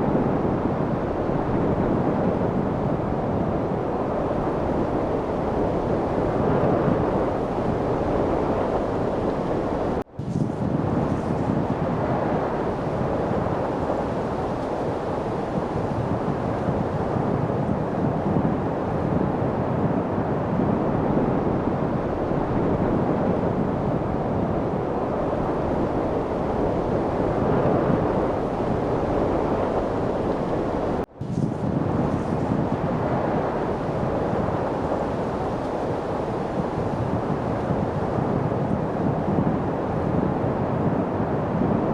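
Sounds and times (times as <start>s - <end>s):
wind rushing: 0.0s - 41.9s.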